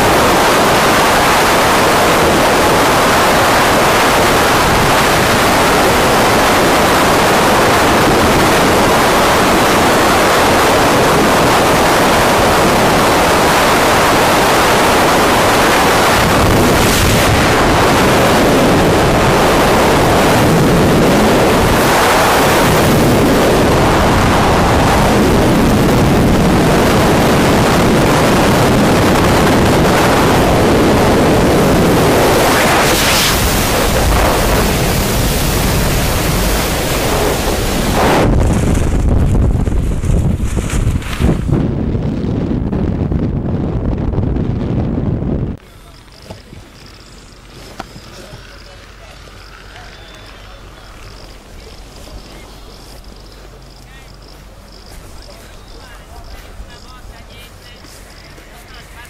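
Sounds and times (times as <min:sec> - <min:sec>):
freefall wind blasting microphone: 0:00.0 - 0:59.0.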